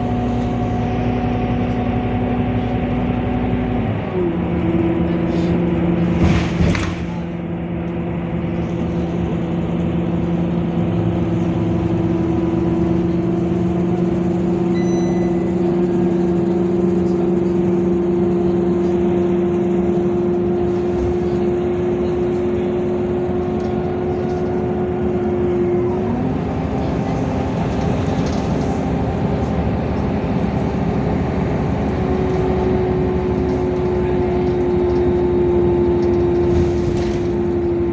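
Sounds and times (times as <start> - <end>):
bus diesel engine running: 0.0 - 37.9.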